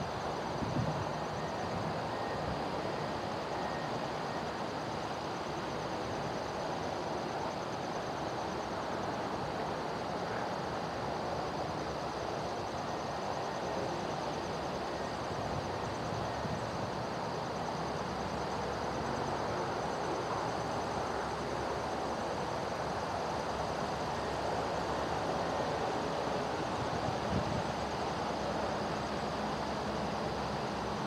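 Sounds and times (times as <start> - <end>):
distant locomotive engines droning: 0.0 - 31.0
insects chirring: 0.0 - 31.0.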